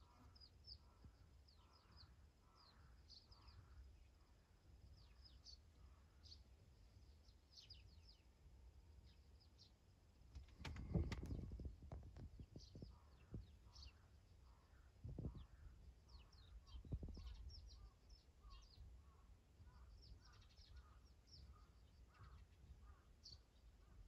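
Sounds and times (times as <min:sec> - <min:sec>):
small birds chirping: 0:00.0 - 0:08.4, 0:09.0 - 0:24.0.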